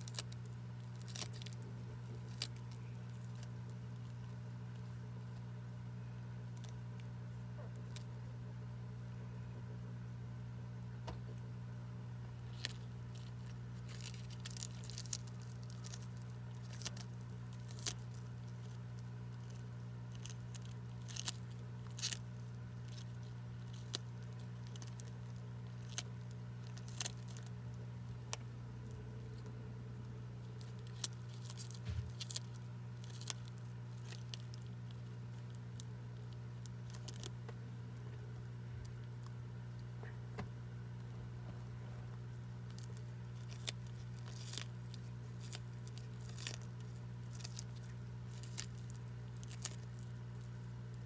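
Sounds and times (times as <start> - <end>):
tortoise crunching leaf: 0.0 - 8.4, 12.3 - 40.0, 40.9 - 51.0
low hum: 0.0 - 51.0.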